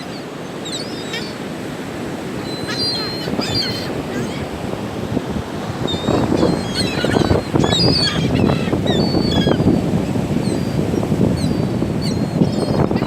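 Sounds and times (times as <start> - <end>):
seagulls calling: 0.0 - 13.0
wind on microphone: 1.9 - 13.0.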